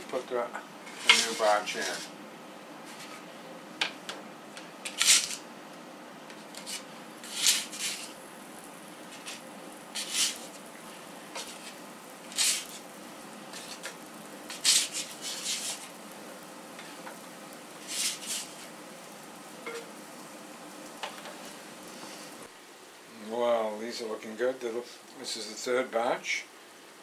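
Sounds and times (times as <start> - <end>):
faint steady sizzle: 0.0 - 27.0
dough sizzling in hot pot: 0.8 - 22.6.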